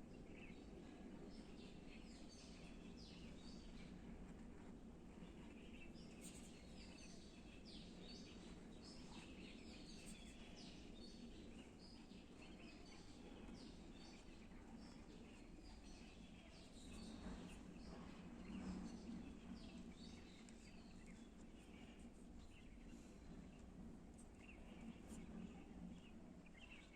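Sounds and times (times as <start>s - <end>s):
low background hum: 0.1s - 26.9s
small birds chirping: 0.1s - 26.9s.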